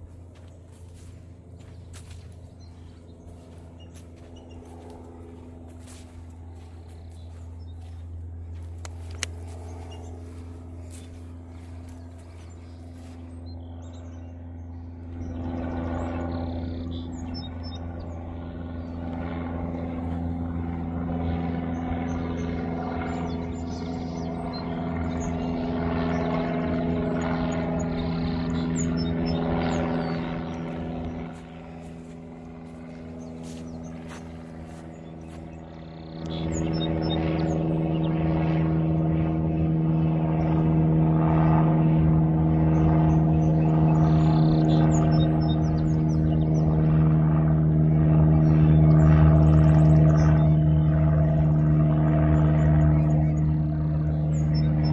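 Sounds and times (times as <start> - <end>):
small birds chirping: 0.0 - 20.4, 21.2 - 40.7, 42.6 - 47.0, 47.9 - 54.9
distant engine running: 0.0 - 54.9.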